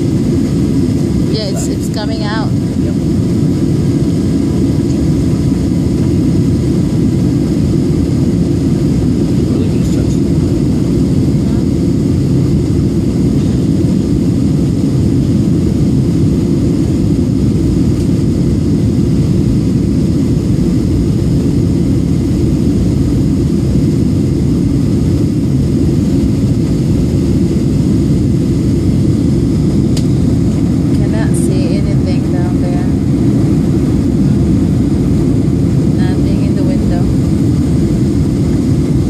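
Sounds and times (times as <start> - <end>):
jet airliner cabin rumble: 0.0 - 39.0.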